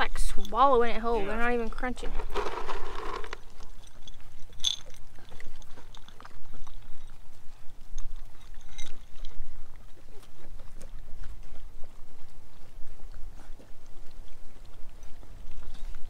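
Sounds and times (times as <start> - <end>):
puppies eating kibble: 0.0 - 16.0.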